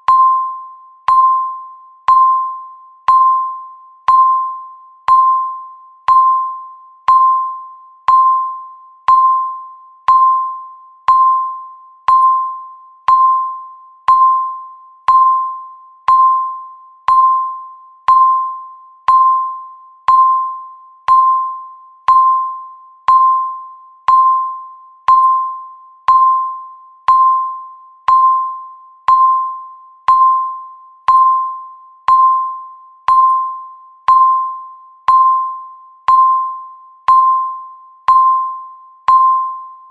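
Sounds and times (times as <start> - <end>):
electronic timer beeps: 0.0 - 39.9.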